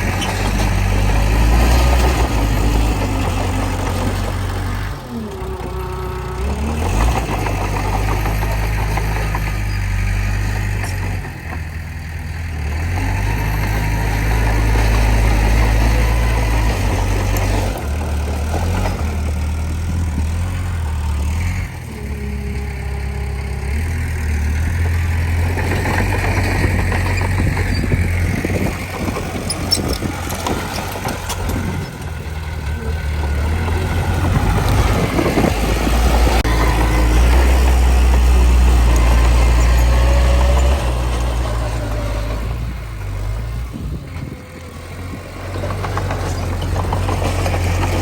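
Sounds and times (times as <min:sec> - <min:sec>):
bulldozer diesel engine running: 0:00.0 - 0:48.0
rough mechanical clatter: 0:00.0 - 0:48.0.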